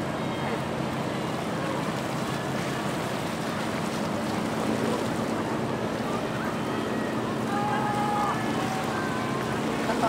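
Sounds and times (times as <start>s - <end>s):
sea waves: 0.0s - 10.0s.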